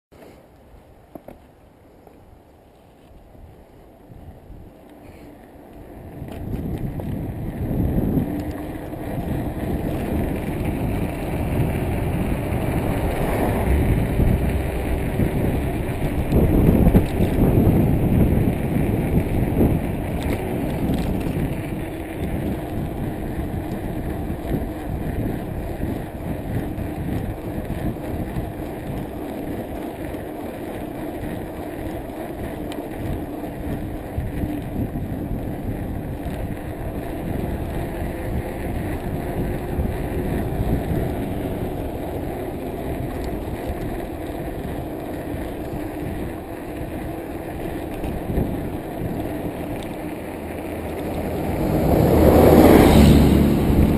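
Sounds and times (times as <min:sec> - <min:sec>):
bicycle tyre rumble on asphalt: 0:00.1 - 0:53.9
wind noise on microphone: 0:02.3 - 0:53.9.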